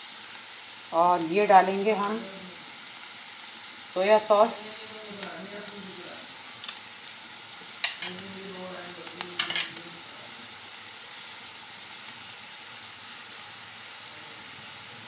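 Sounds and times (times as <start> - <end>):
vegetables sizzling in a wok: 0.0 - 15.0.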